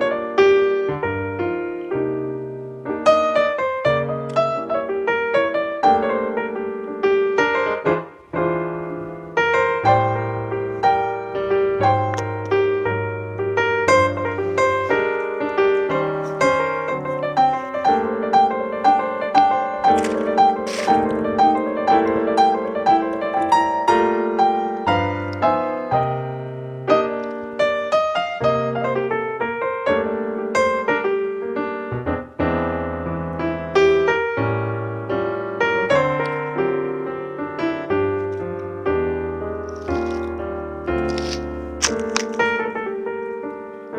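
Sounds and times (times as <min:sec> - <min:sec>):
gentle piano melody: 0:00.0 - 0:43.9
held piano bass: 0:00.0 - 0:43.9.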